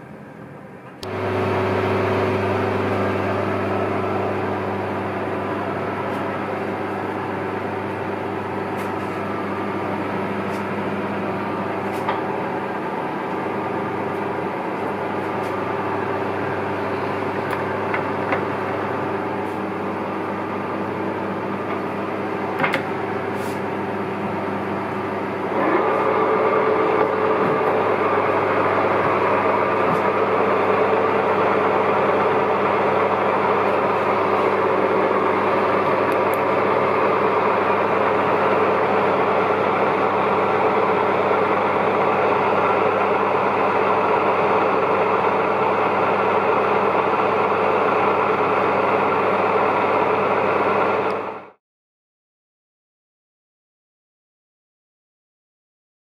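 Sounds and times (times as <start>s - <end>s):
lathe motor humming: 1.0s - 51.6s.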